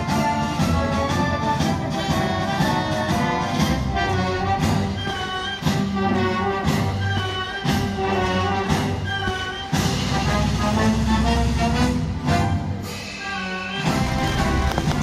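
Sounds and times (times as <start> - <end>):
orchestra playing brass-heavy piece: 0.0 - 15.0.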